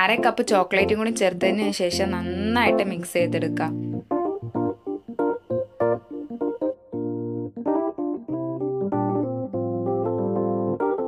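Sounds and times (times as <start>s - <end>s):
instrumental keyboard music: 0.0s - 11.0s.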